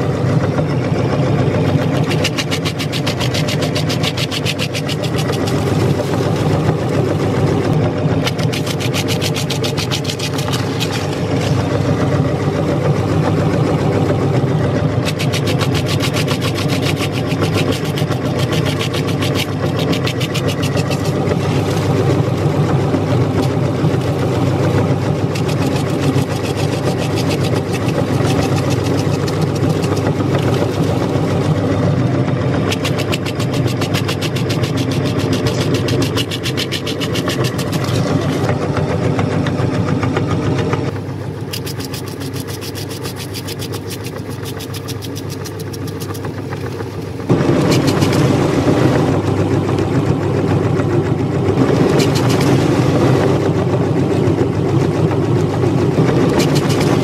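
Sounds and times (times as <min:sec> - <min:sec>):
electric meat grinder running: 0:00.0 - 0:57.0.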